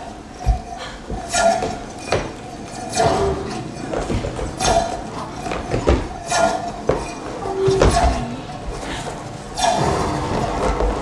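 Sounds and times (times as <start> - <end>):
rhythmic knocking and clinking: 0.0 - 11.0.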